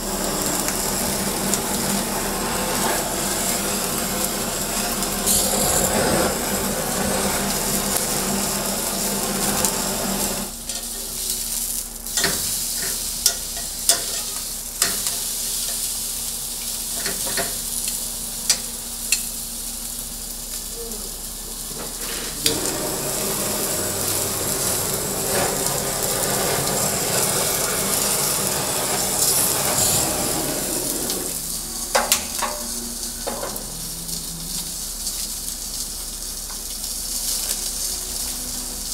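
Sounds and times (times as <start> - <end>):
steak sizzling: 0.0 - 38.9.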